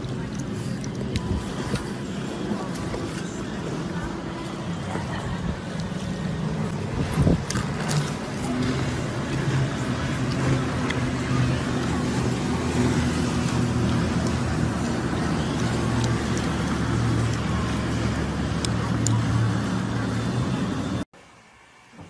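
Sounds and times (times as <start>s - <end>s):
low motor hum: 0.0s - 21.1s.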